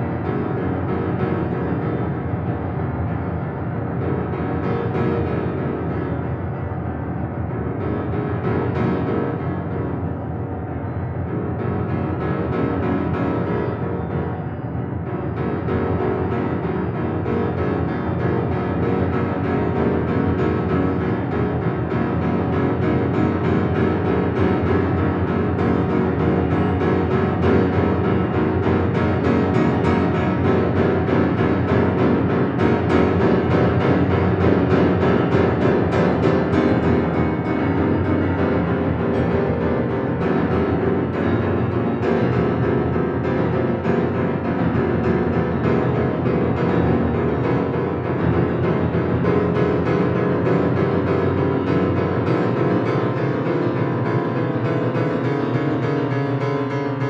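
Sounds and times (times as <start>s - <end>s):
piano cluster chords: 0.0s - 57.0s.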